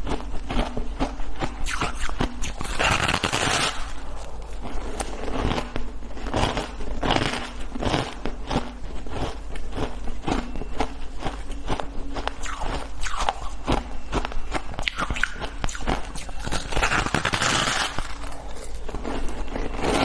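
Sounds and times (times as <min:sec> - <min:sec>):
ice being chewed and crunched: 0:00.0 - 0:20.0.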